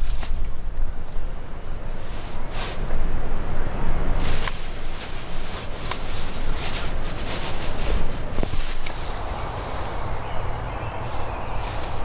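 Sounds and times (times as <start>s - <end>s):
rustling in dry leaves: 0.0s - 12.0s
wind buffeting microphone: 0.0s - 12.0s.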